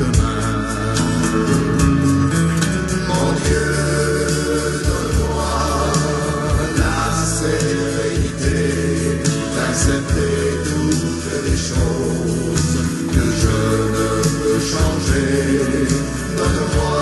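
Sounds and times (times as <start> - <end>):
instrumental accompaniment: 0.0 - 17.0
person singing: 0.0 - 17.0.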